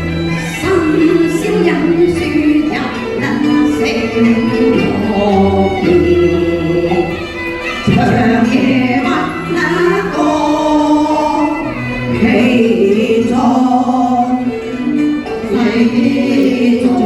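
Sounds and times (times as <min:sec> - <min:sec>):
opera music with wavering notes: 0:00.0 - 0:17.0.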